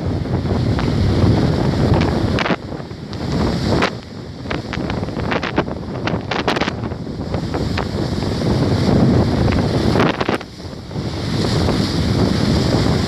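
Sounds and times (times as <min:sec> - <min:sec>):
rough sea surf washing ashore: 0:00.0 - 0:13.0
wind buffeting microphone: 0:00.0 - 0:13.0.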